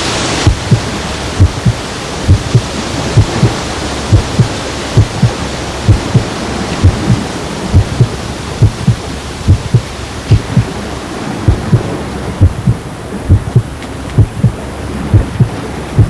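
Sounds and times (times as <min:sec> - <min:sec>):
steady hiss: 0:00.0 - 0:16.0
heartbeat thumps: 0:00.4 - 0:10.7, 0:11.5 - 0:16.0.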